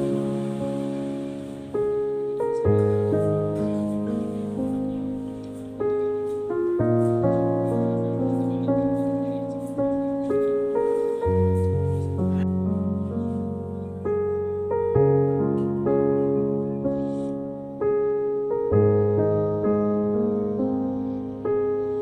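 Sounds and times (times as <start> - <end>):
gentle piano chords: 0.0 - 22.0.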